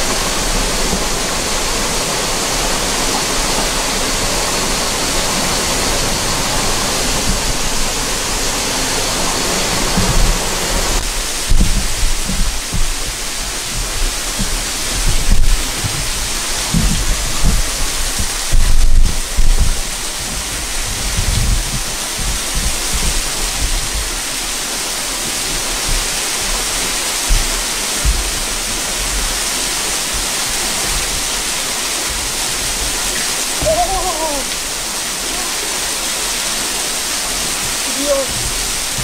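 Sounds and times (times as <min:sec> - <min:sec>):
water rushing down cascade: 0:00.0 - 0:39.0
wind buffeting microphone: 0:00.0 - 0:39.0.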